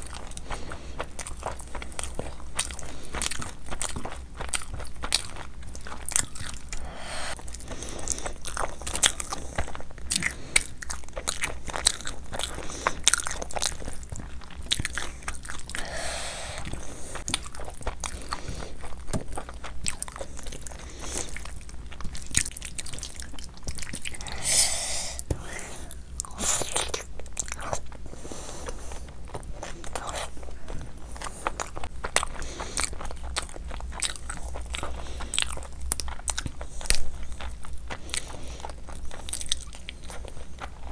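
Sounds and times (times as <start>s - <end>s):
person biting and chewing food: 0.0s - 40.9s.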